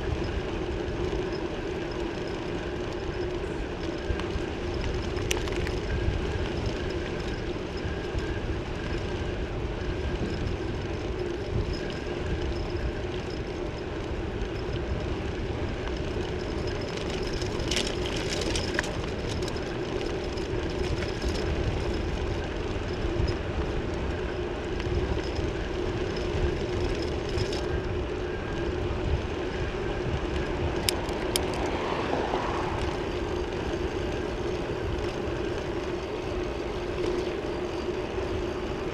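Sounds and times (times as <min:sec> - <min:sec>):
bicycle rolling hum: 0:00.0 - 0:38.9
wind buffeting microphone: 0:00.0 - 0:38.9.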